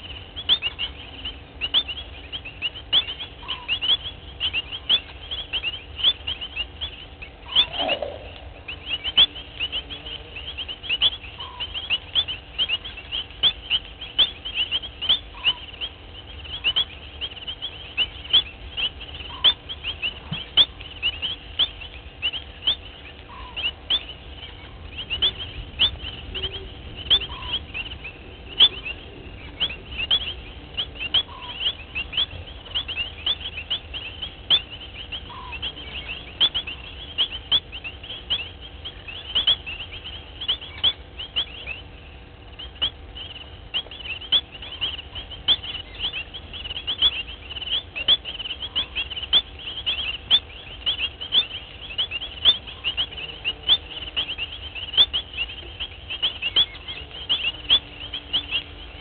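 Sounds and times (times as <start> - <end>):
high chirps: 0.0 - 59.0
soft low repeating note: 0.0 - 59.0.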